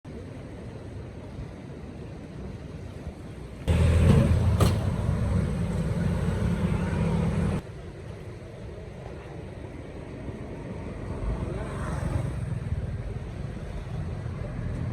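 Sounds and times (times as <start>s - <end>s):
low engine rumble: 0.1s - 14.9s.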